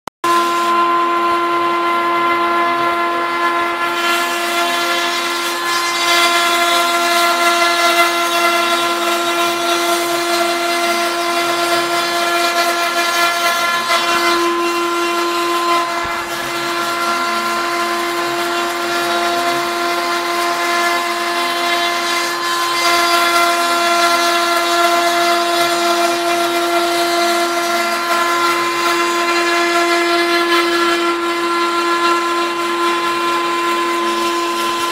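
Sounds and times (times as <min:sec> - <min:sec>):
router spindle whining: 0:00.3 - 0:34.9.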